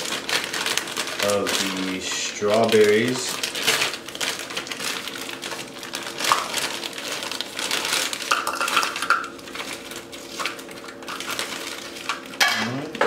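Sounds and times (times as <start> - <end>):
frozen fruit clacking: 0.0 - 13.0
plastic bag rustling: 0.0 - 13.0.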